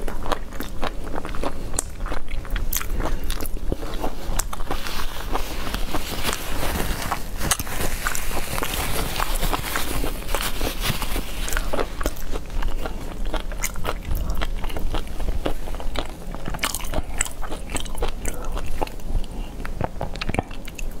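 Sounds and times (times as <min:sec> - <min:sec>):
chewing and crunching food: 0:00.0 - 0:21.0.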